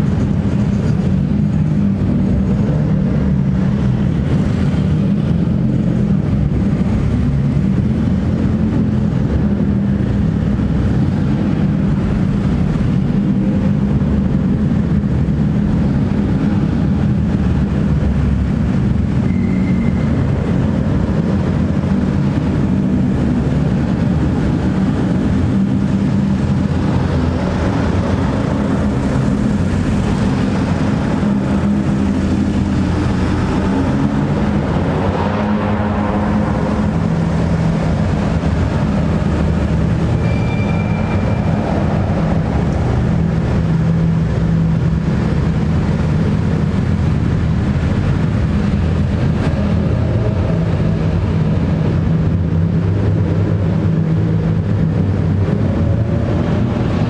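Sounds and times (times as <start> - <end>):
car engines rolling past: 0.0 - 57.0.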